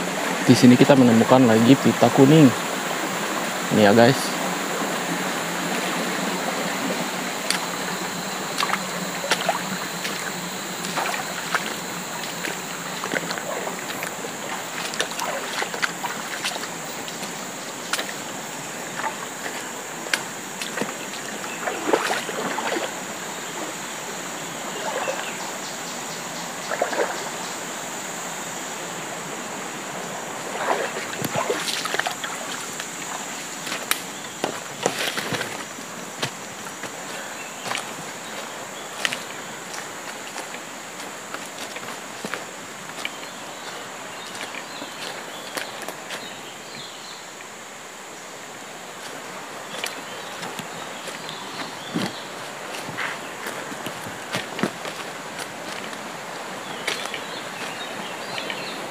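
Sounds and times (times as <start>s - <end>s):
water rushing over rocks: 0.0s - 25.7s, 26.7s - 58.9s.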